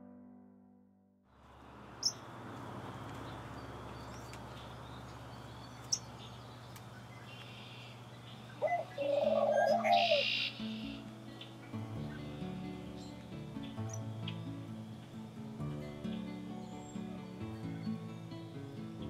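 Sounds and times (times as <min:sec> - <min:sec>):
steady low hum: 0:01.4 - 0:19.0
birds chirping and warbling: 0:01.5 - 0:19.0.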